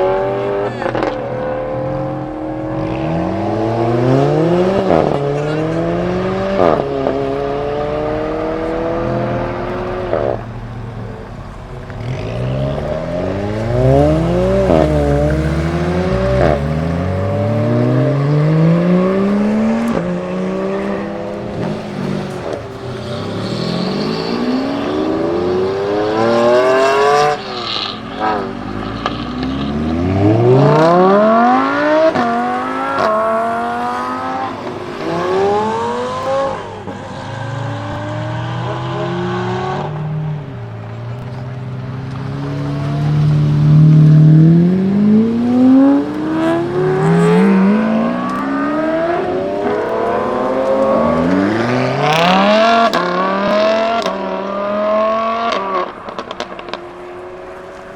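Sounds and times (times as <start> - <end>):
sports cars accelerating hard: 0.0 - 57.9.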